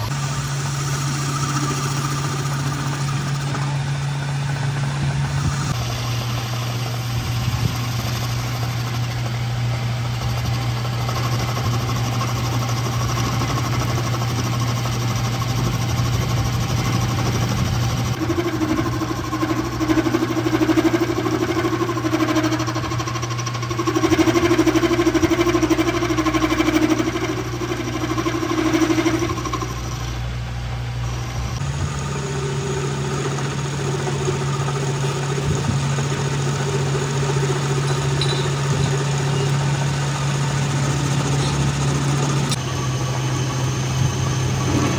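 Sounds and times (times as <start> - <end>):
lathe tool cutting steel: 0.0 - 44.9
metal lathe motor hum: 0.0 - 44.9.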